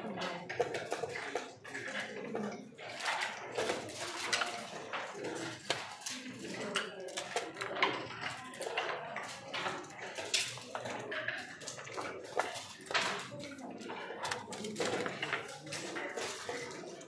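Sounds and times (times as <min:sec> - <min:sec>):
murmur of voices: 0:00.0 - 0:17.0.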